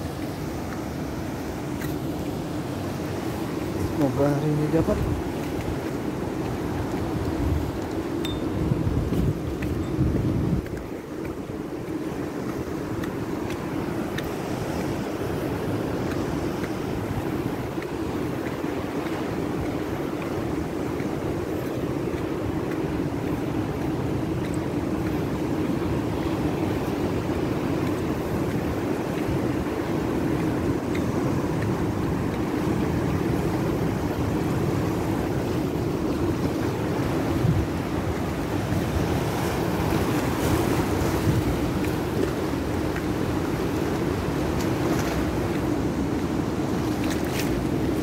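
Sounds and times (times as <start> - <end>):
wind on microphone: 2.9 - 48.0.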